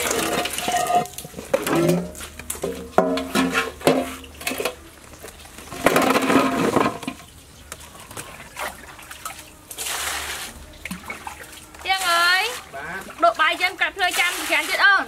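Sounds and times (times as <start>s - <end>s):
metal basin clanking: 0.0s - 15.0s.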